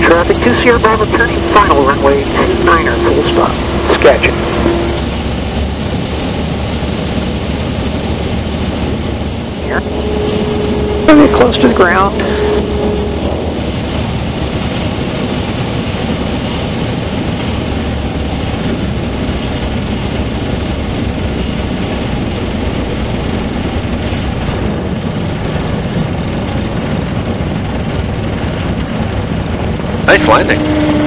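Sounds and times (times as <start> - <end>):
aircraft engine idling: 0.0 - 31.0
airflow: 0.0 - 31.0
low rumble: 0.0 - 31.0.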